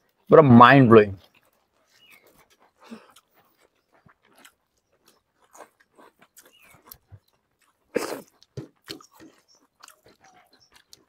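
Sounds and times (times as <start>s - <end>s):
hands mixing food on plates: 0.0s - 11.0s
soft chewing: 0.0s - 11.0s.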